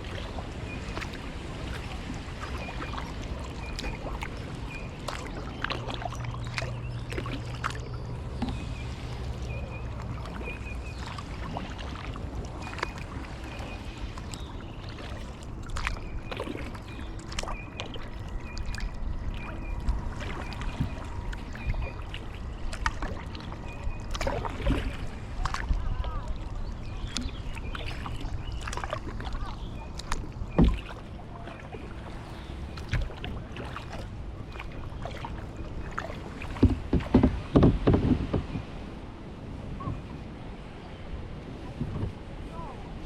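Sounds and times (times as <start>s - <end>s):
paddle knocking lightly: 0.0s - 39.0s, 41.6s - 42.8s
paddle splashing water: 0.0s - 43.0s.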